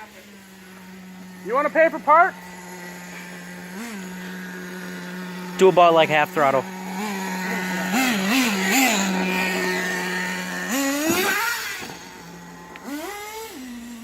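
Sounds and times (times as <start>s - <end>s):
model car engine idling and revving: 0.0s - 14.0s.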